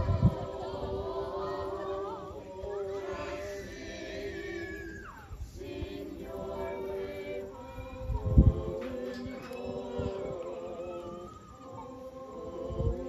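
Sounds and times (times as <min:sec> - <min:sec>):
group singing a cappella: 0:00.0 - 0:13.0.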